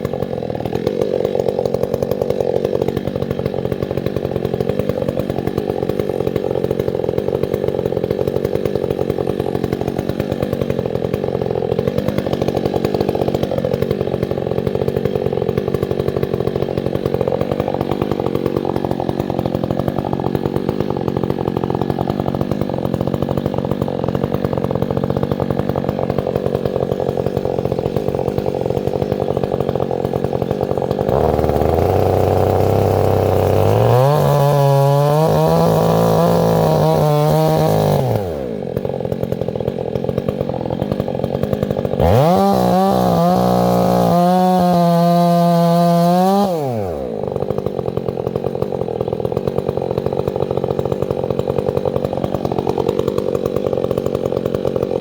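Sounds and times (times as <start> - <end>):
chainsaw running at high speed: 0.0 - 55.0.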